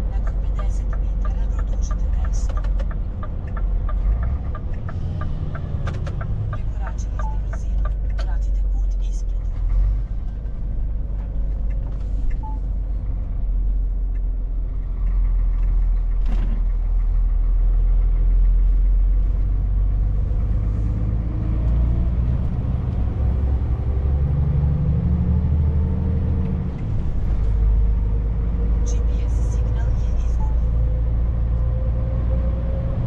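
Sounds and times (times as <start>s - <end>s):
road noise: 0.0s - 33.0s
truck engine rumble: 0.0s - 33.0s.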